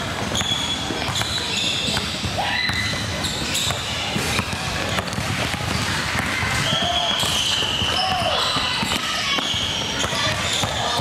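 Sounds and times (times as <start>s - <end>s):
sneakers squeaking on court: 0.0s - 11.0s
basketball bouncing on wooden floor: 0.2s - 11.0s.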